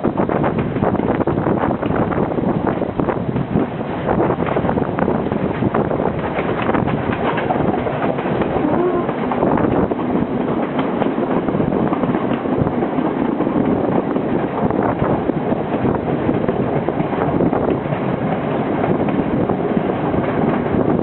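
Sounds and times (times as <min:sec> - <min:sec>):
train rumble: 0:00.0 - 0:21.0
train wheels clattering on rails: 0:00.0 - 0:21.0
wind buffeting microphone: 0:00.0 - 0:21.0.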